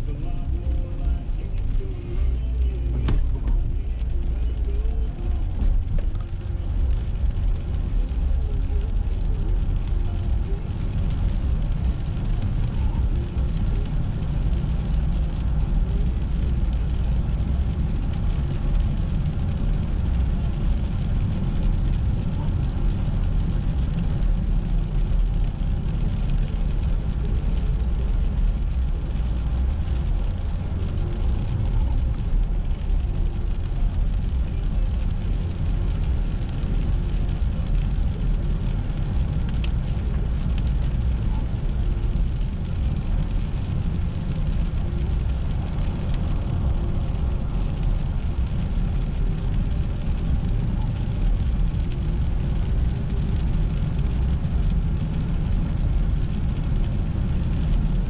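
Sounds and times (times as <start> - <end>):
car driving: 0.0 - 58.0.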